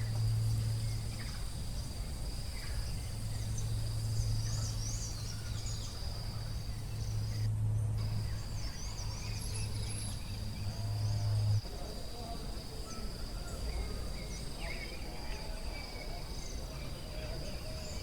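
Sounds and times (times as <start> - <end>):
birds chirping: 0.0 - 7.4, 8.0 - 18.0.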